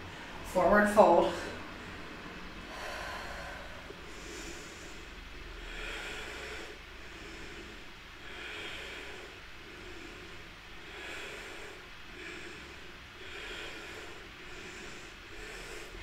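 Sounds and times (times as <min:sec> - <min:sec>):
person breathing slowly: 0:01.5 - 0:16.0.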